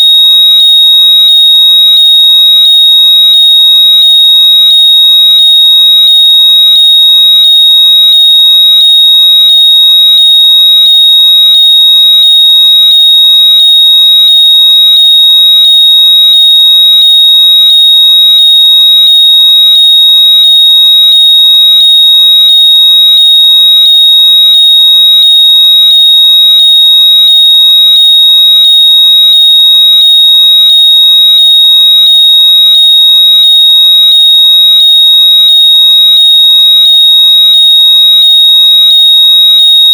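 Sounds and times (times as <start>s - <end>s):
high-pitched electronic tone: 0.0s - 39.9s.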